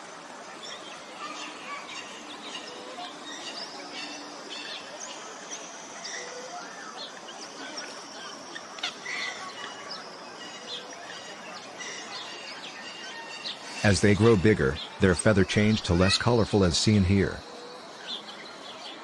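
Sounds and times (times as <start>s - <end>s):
birds chirping and whistling: 0.6s - 19.0s.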